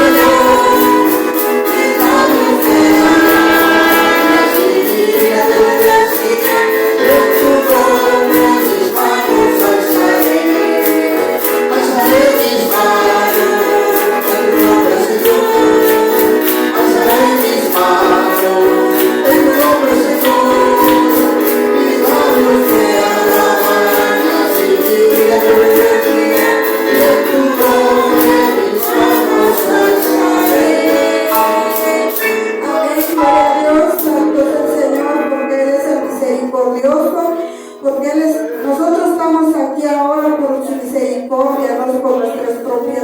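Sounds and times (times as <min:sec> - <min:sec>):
tambourine beat: 0:00.0 - 0:35.1
congregation singing: 0:00.0 - 0:39.3.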